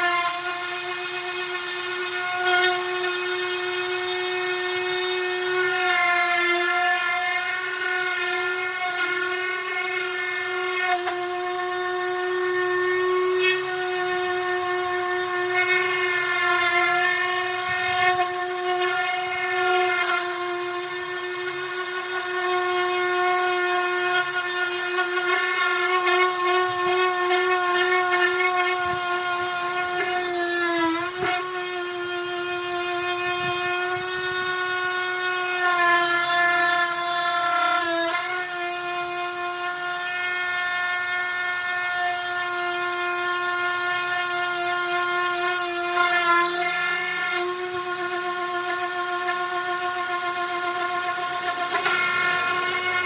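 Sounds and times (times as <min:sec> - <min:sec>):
electric sander whining: 0:00.0 - 0:53.0.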